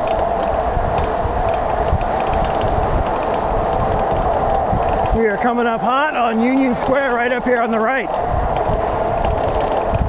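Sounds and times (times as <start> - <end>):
electric bike motor whining: 0.0 - 10.0
wind rumble on microphone: 0.0 - 10.0.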